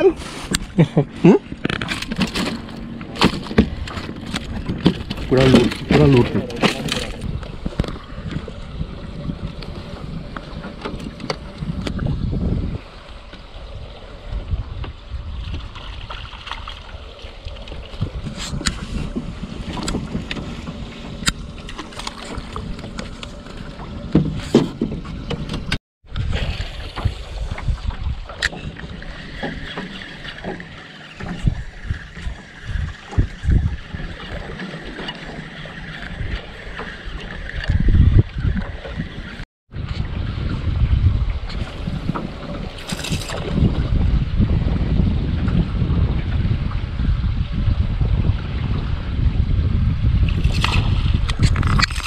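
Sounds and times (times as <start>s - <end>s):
water lapping on boat: 0.0s - 52.0s
wind buffeting microphone: 0.0s - 52.0s.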